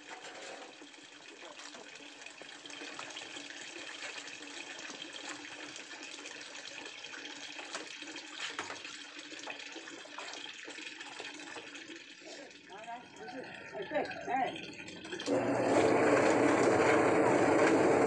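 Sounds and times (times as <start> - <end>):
water running: 0.0 - 18.0.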